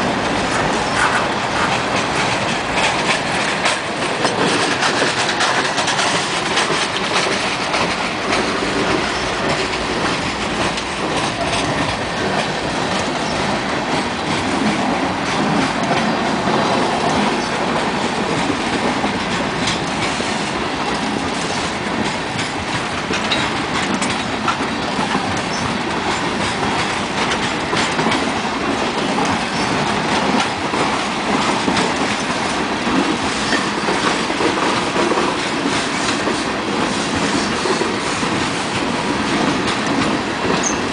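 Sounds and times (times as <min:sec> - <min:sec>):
freight train wheels rolling on rail: 0:00.0 - 0:40.9.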